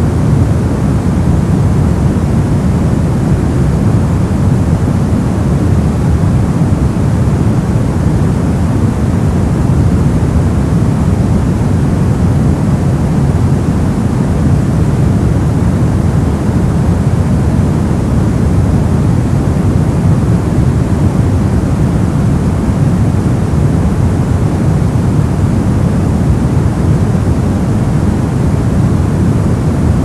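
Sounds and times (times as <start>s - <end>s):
brown noise: 0.0s - 30.0s.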